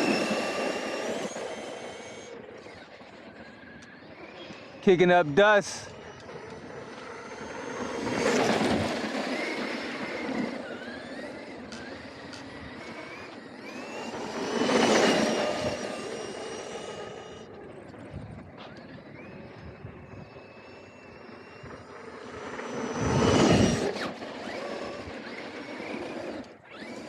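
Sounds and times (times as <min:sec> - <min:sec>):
tyres churning dirt: 0:00.0 - 0:19.4, 0:20.2 - 0:27.0
electric motor whining: 0:00.0 - 0:27.0.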